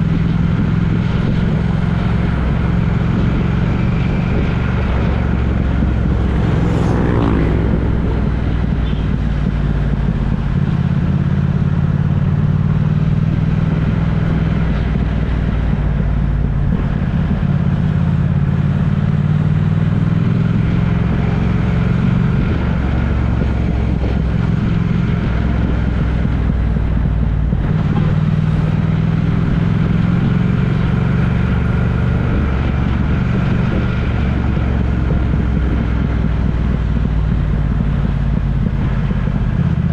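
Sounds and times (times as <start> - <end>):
road noise: 0.0 - 39.9
vehicle engine droning: 0.0 - 39.9.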